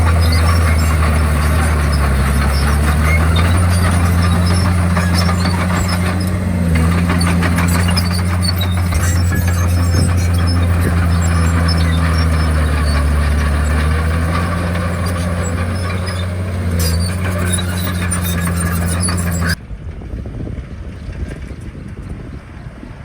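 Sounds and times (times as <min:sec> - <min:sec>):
bulldozer diesel engine running: 0:00.0 - 0:19.6
tracks squealing: 0:00.0 - 0:19.6.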